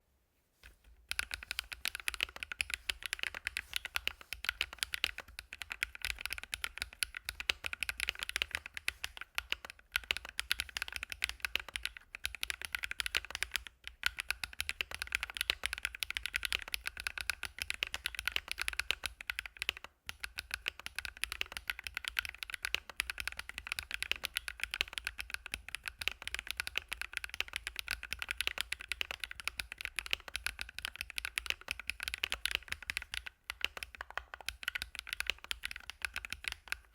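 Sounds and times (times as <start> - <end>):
mechanical keyboard typing: 1.1 - 36.9.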